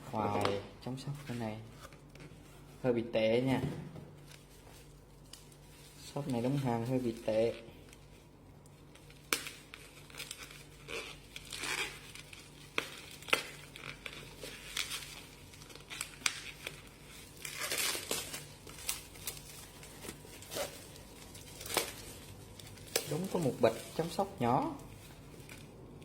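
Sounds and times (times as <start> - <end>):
plastic packaging crinkling: 4.2 - 26.0.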